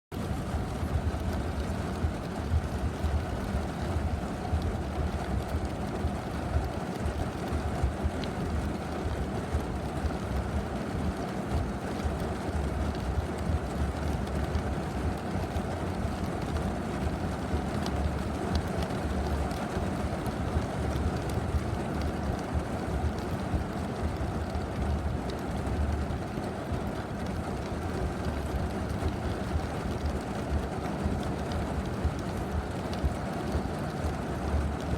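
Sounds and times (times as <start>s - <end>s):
rain falling steadily: 0.1s - 34.9s.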